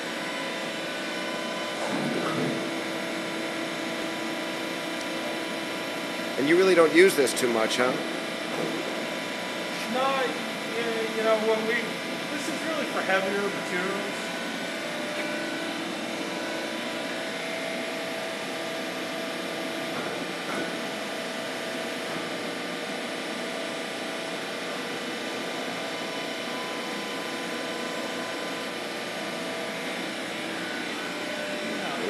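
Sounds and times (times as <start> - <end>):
machine mechanical hum: 0.0 - 32.0.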